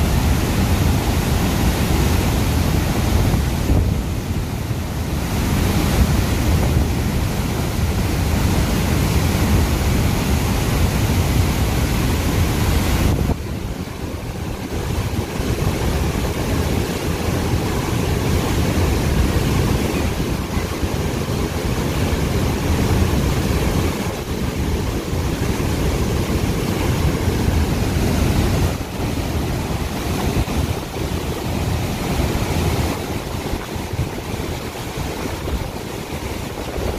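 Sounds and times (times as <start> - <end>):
water rushing down spillway: 0.0 - 36.9.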